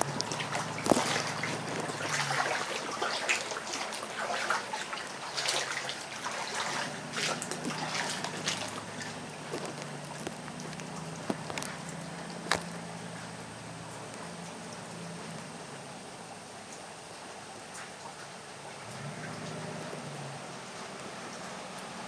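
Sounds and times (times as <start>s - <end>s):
floodwater splashing and trickling: 0.0s - 22.0s.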